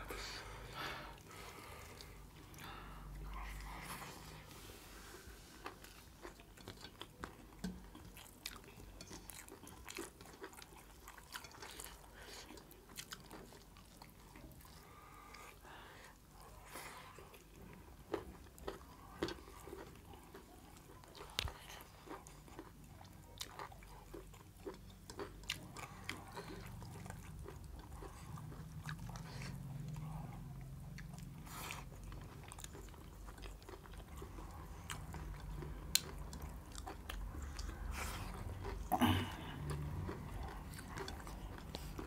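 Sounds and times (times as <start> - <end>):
people chewing and biting: 0.0 - 42.0.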